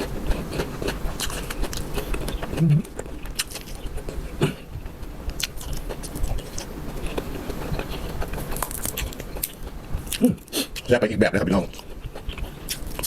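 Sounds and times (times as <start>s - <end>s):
chewing and biting: 0.0s - 10.9s, 11.6s - 13.0s.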